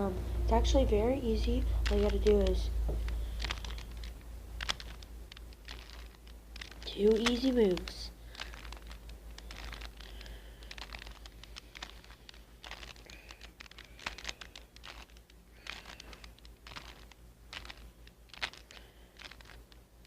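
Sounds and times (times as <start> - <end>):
puzzle cube clicking and rattling: 1.2 - 20.0.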